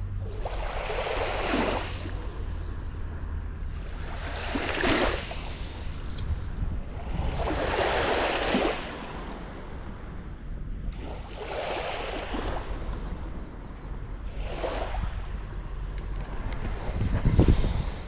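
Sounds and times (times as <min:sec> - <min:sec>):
small waves lapping on beach: 0:00.0 - 0:13.7, 0:14.3 - 0:18.0
wind rumble on microphone: 0:00.0 - 0:18.0.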